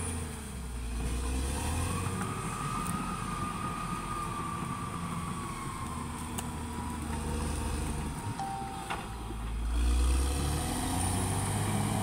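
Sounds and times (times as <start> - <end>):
bulldozer diesel engine rumble: 0.0 - 12.0
high engine whine: 2.0 - 12.0.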